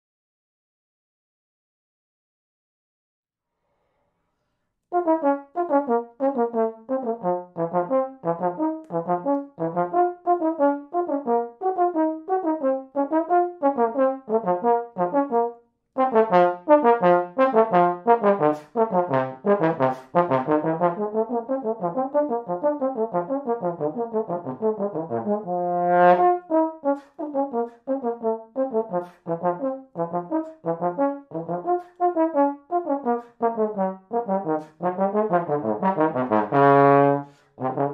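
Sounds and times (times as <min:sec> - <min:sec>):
trombone playing detached notes: 0:05.0 - 0:37.9.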